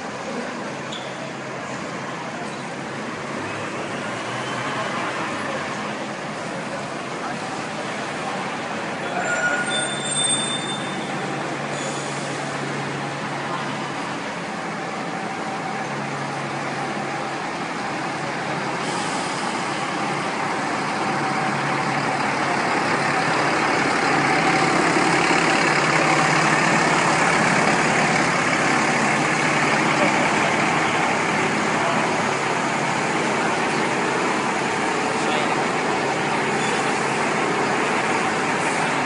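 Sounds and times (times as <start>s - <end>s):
bus engine passing slowly: 0.0s - 39.0s.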